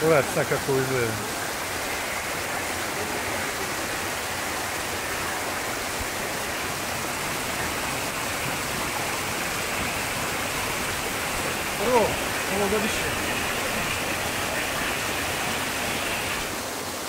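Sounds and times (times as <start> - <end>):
waterfall pouring over rocks: 0.0 - 17.0.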